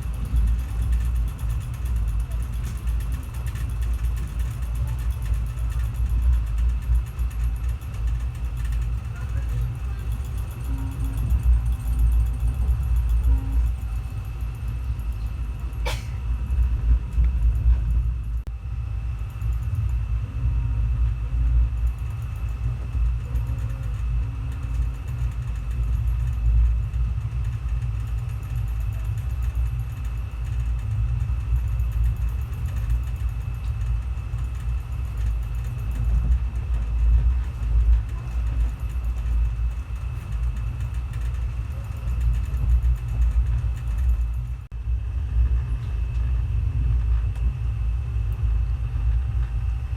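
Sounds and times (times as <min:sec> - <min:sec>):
train low rumble: 0:00.0 - 0:49.9.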